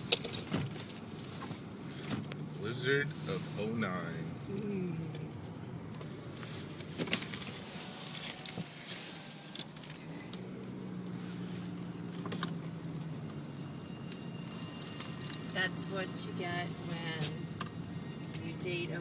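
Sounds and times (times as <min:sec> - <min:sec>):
car cabin hum: 0:00.0 - 0:19.0.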